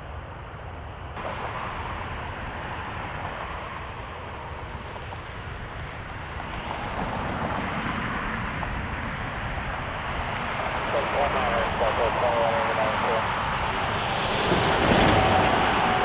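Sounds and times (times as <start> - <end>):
jet engine noise: 0.0 - 16.0
wind buffeting microphone: 0.1 - 16.0.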